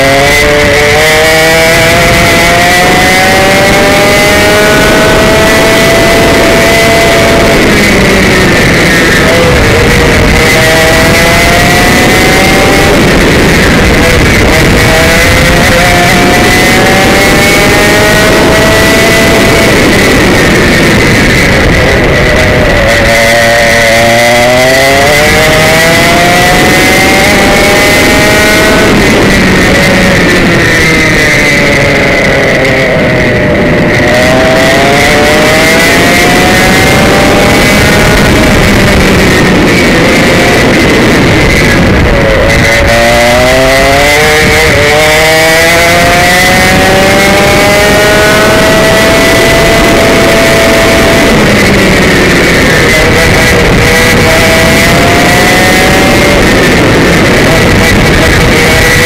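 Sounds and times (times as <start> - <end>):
two-stroke kart engine racing: 0.0 - 59.0.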